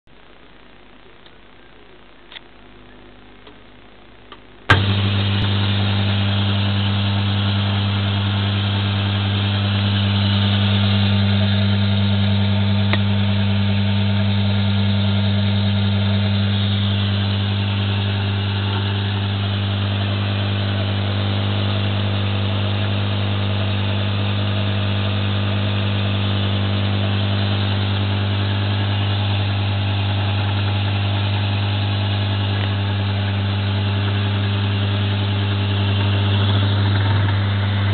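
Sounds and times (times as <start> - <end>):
belt sander motor humming: 4.7 - 37.9.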